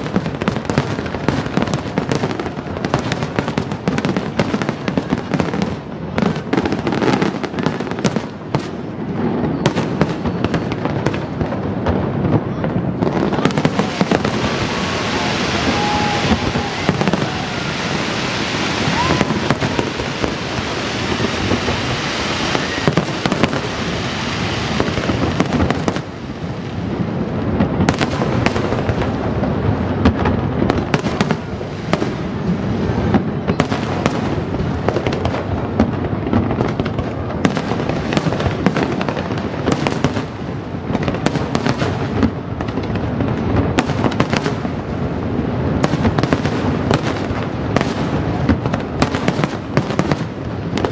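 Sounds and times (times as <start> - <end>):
fireworks booming and crackling: 0.0 - 50.9
fireworks sharp bangs: 0.0 - 50.9.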